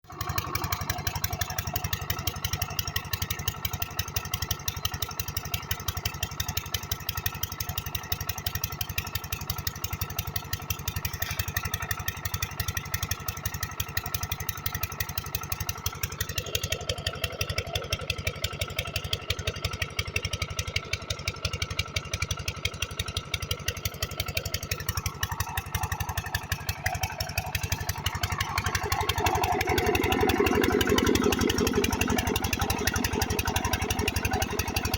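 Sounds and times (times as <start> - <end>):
diesel water pump engine running: 0.0 - 34.9.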